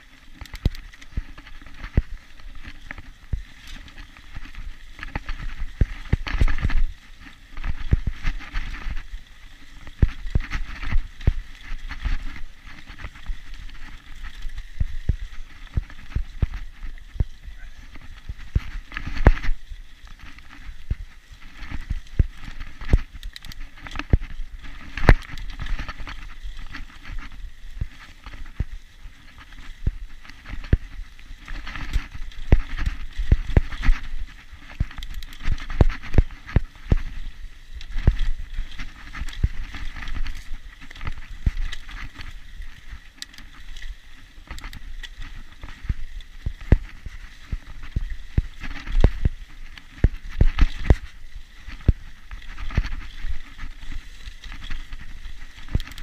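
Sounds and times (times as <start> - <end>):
bike rattling over bumps: 0.0 - 56.0
steady rushing noise: 0.0 - 56.0.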